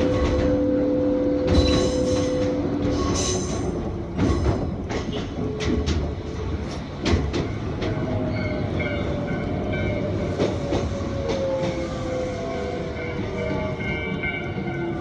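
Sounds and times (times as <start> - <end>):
train running noise: 0.0 - 15.0
wheels clicking over rail joints: 1.4 - 15.0.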